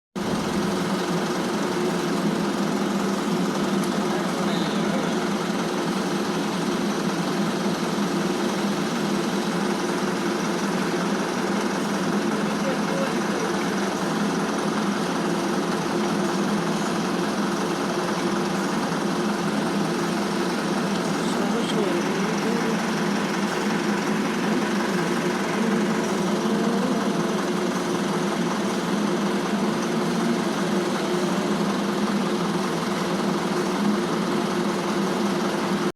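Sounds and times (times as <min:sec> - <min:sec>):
construction machinery engine humming: 0:00.2 - 0:35.9.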